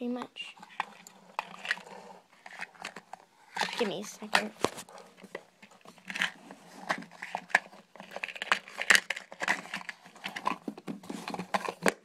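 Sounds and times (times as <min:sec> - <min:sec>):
phone handling rustling: 0:00.6 - 0:12.0.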